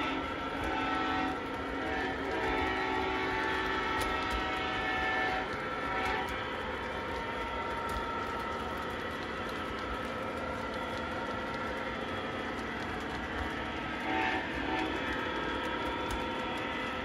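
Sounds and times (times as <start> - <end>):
model train wheels and motor rumbling: 0.0 - 17.0.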